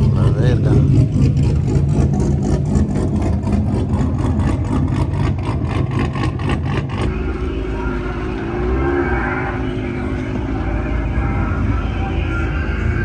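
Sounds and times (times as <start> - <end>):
car engine pulsing exhaust: 0.0 - 13.0.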